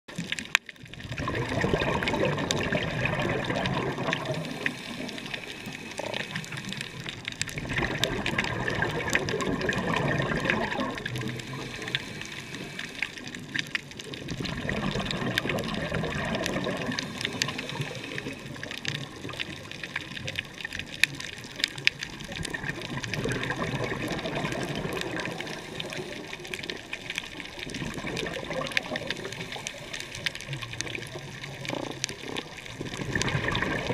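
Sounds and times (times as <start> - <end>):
crackling clicks underwater: 0.1 - 33.9
diver's bubbles rushing underwater: 0.1 - 33.9.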